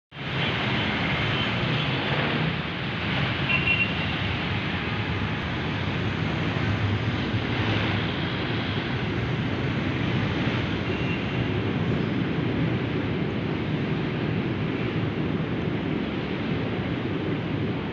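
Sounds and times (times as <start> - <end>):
vehicles driving past: 0.1 - 17.9.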